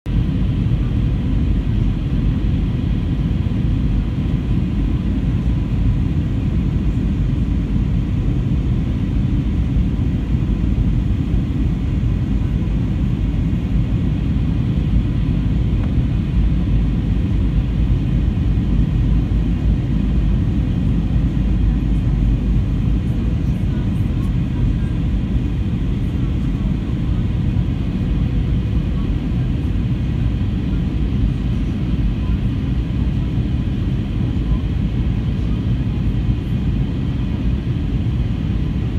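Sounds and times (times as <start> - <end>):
airplane cabin engine rumble: 0.1 - 38.9.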